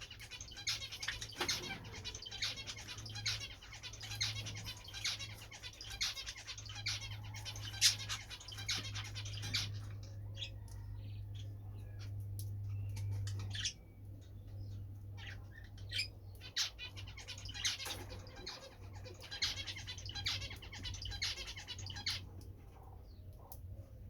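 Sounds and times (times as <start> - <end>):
finches twittering: 0.0 - 23.5.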